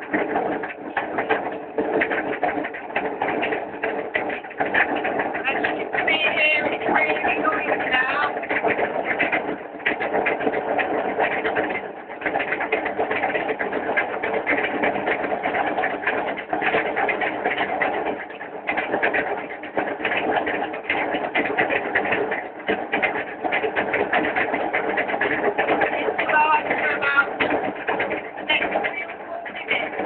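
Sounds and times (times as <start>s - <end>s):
washing machine clattering: 0.0s - 30.0s.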